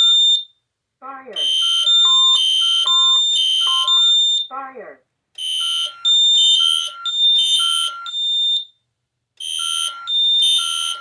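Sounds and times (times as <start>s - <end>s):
electronic fire alarm tones: 0.0s - 0.6s, 1.4s - 4.7s, 5.4s - 8.8s, 9.4s - 11.0s.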